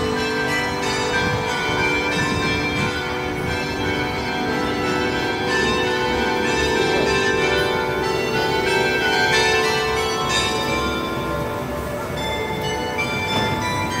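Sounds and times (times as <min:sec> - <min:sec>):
church bells ringing: 0:00.0 - 0:14.0.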